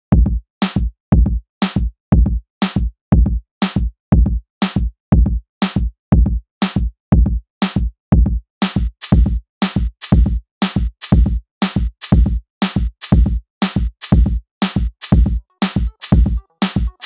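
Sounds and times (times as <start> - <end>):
drum machine beat: 0.2 - 17.0.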